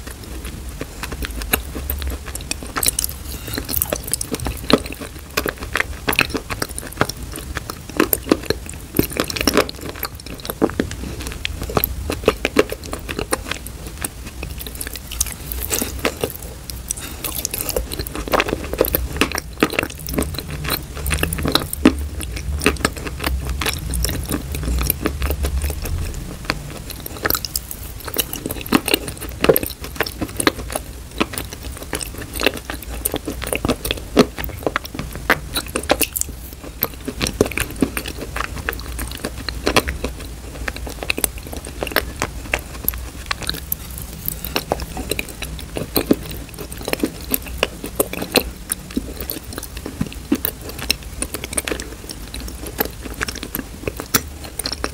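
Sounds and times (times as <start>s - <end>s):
low steady hum: 0.0s - 54.9s
mouth eating sticky paste: 0.0s - 54.9s.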